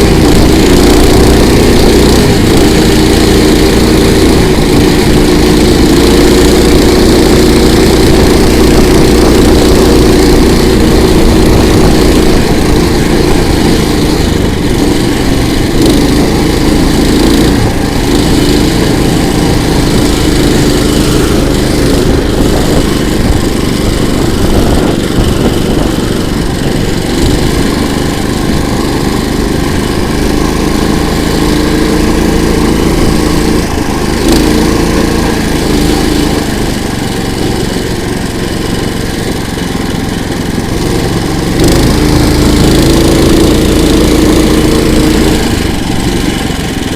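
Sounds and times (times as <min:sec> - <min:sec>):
small petrol engine running: 0:00.0 - 0:46.9.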